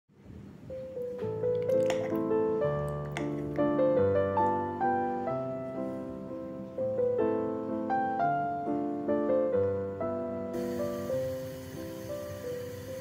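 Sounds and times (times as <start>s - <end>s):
gentle piano music: 0.1s - 13.0s.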